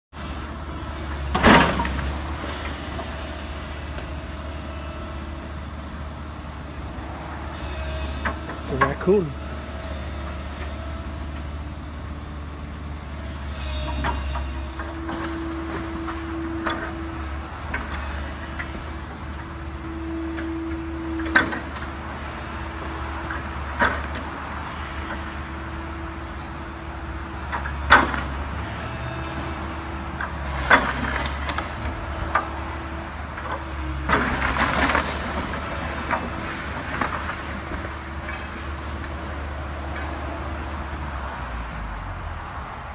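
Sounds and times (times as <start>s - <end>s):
heavy machinery engine drone: 0.2s - 42.9s.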